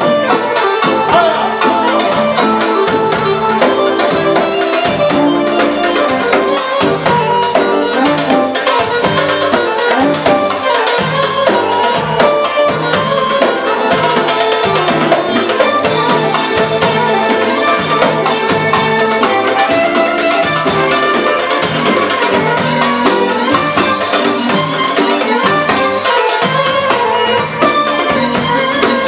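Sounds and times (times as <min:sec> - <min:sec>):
drum kit beat: 0:00.0 - 0:29.0
hand frame drum: 0:00.0 - 0:29.0
keyboard melody: 0:00.0 - 0:29.0.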